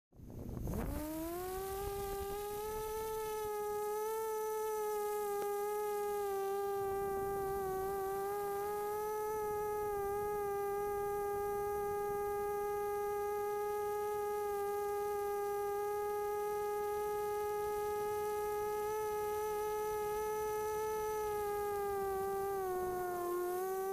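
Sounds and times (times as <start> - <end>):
drone motors whining: 0.4 - 23.9.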